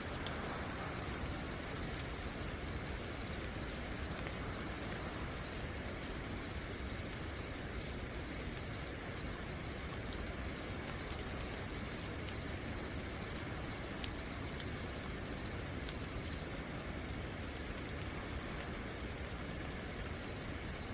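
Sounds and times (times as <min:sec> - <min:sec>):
cricket trilling: 0:00.0 - 0:20.9
steady rain falling: 0:00.0 - 0:20.9.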